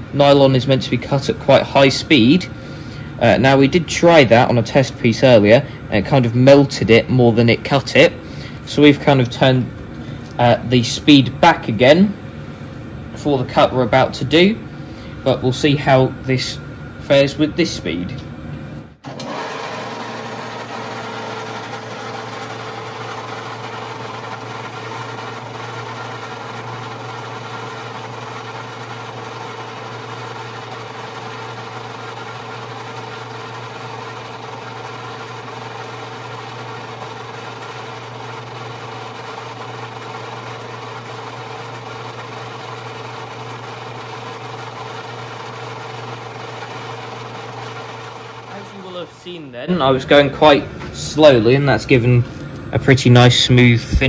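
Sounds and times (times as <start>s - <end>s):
metal lathe humming: 0.0s - 54.0s.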